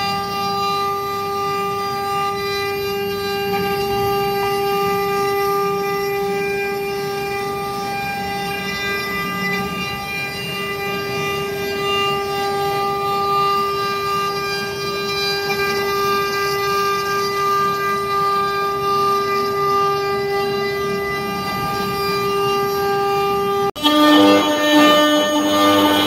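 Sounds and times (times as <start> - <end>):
router spindle whining: 0.0 - 26.0.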